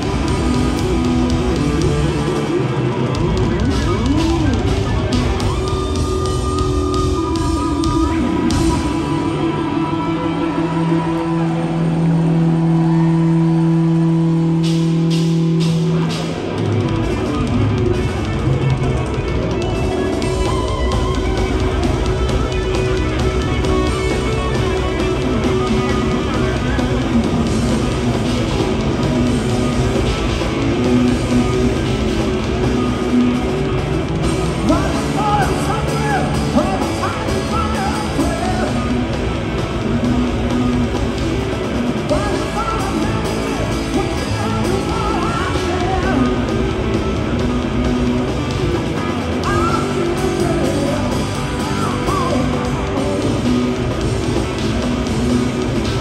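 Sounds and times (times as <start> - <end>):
bass guitar: 0.0 - 56.0
distorted electric guitar: 0.0 - 56.0
drum kit: 0.0 - 56.0.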